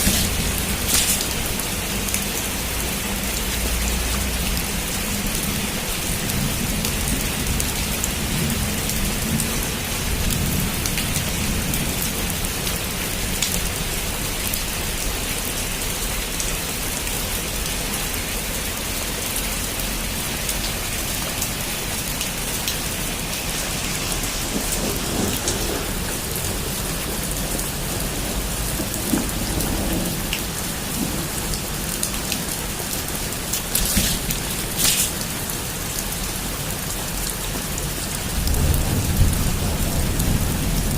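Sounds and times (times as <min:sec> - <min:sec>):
heavy rain on a rooftop: 0:00.0 - 0:40.9.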